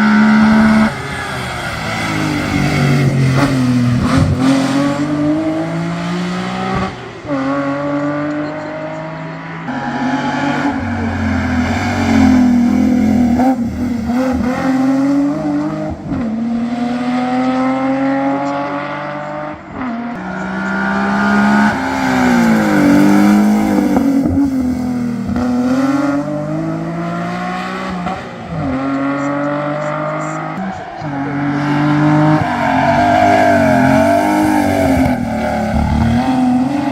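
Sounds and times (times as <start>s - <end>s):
race car engine accelerating: 0.0s - 36.9s.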